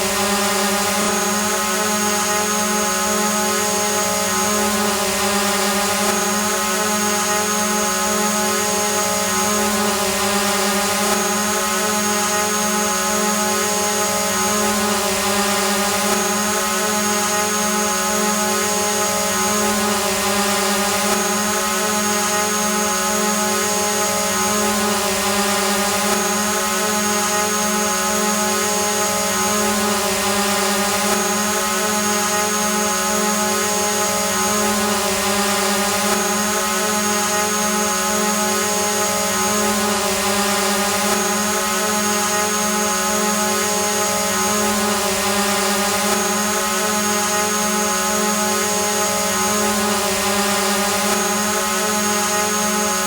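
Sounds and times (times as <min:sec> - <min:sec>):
drone propellers buzzing hum: 0:00.0 - 0:53.0.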